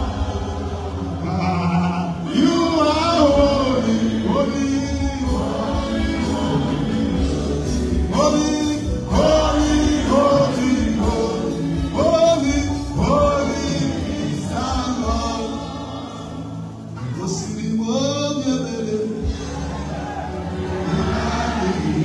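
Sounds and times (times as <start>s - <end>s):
musical accompaniment: 0.0s - 22.0s
man singing into microphone: 1.2s - 19.6s.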